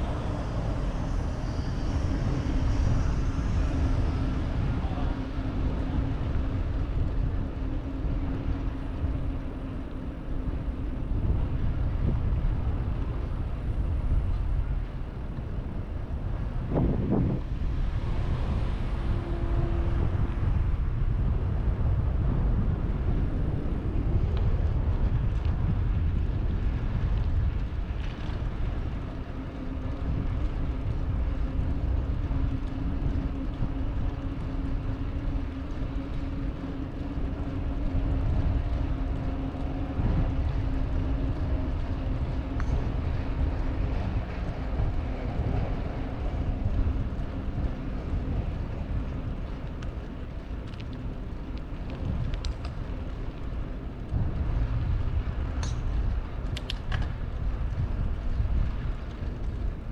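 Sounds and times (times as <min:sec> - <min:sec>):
engine hum: 0:00.0 - 0:59.9
wind and road noise on microphone: 0:00.0 - 0:59.9.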